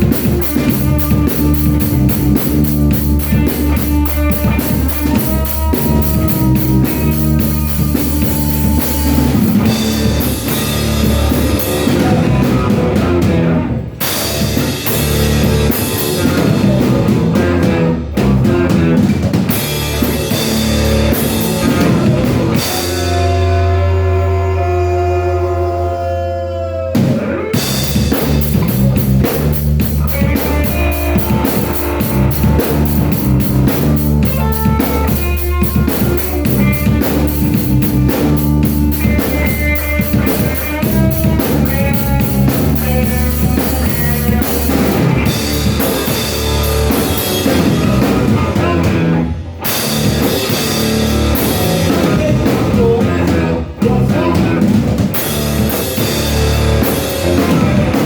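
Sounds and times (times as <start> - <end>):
rock music with drums and guitar: 0.0 - 25.0, 26.8 - 58.0.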